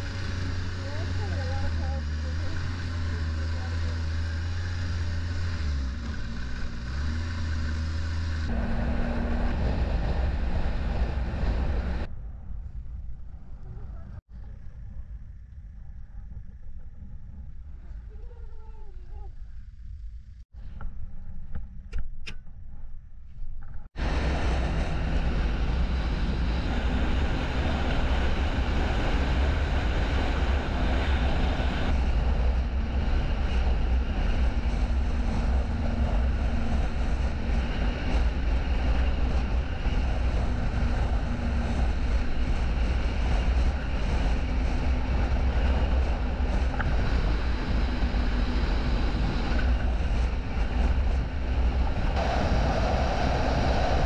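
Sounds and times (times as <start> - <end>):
snowmobile engine and track noise: 0.0 - 54.0
wind rumble on microphone: 0.0 - 54.0.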